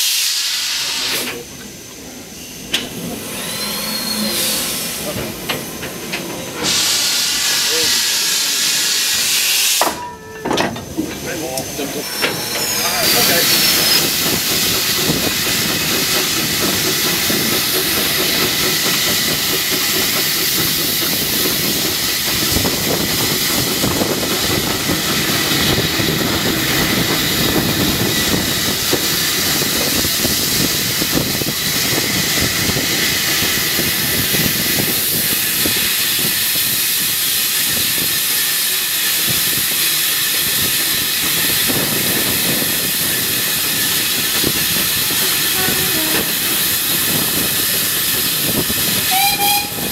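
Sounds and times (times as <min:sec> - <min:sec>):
steam hissing: 0:00.0 - 0:10.0, 0:10.8 - 0:49.9
train running on track: 0:00.0 - 0:49.9.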